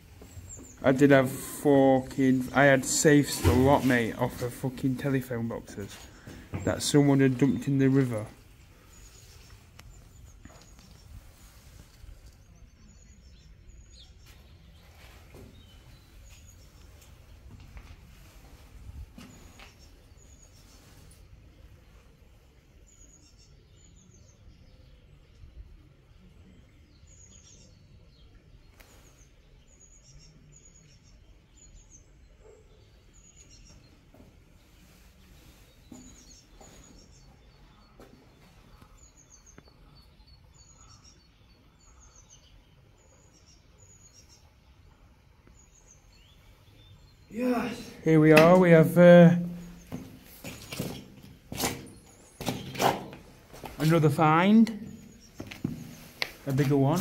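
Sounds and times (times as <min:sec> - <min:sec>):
faint outdoor background noise: 0:00.0 - 0:57.0
small birds chirping: 0:00.0 - 0:57.0.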